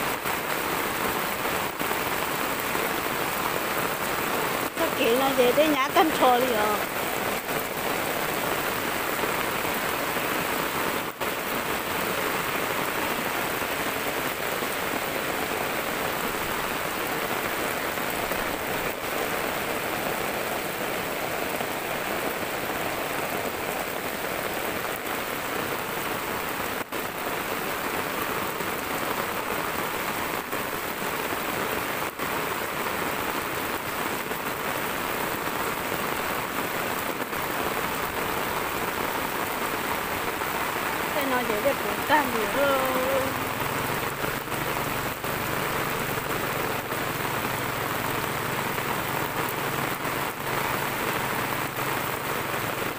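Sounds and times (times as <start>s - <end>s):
heavy rain on wet ground: 0.0s - 52.9s.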